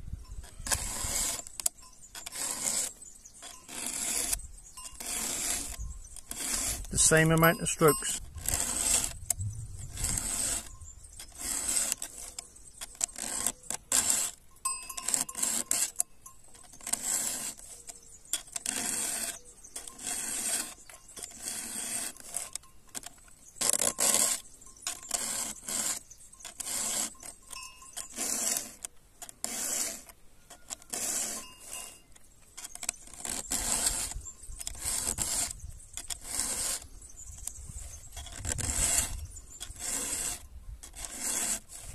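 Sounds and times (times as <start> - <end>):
file rasping on chainsaw chain: 0.2 - 41.9.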